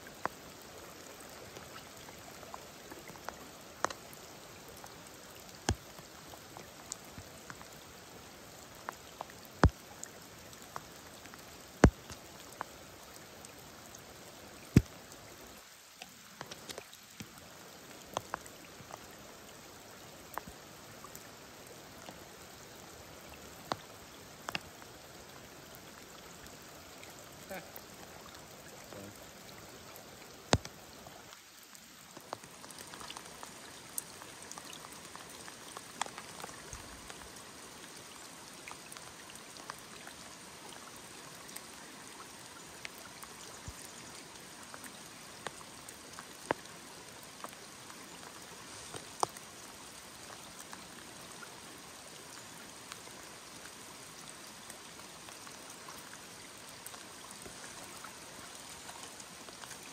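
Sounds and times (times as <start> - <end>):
raindrop ticks: 0.0 - 51.4, 54.4 - 59.9
rain hiss: 0.0 - 59.9.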